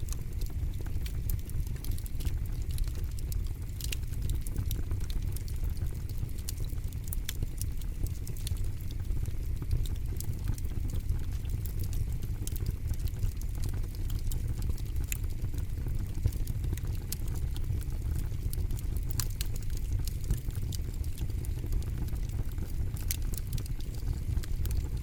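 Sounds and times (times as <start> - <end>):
burning wood crackles and pops: 0.0 - 25.0
low roar of flames: 0.0 - 25.0.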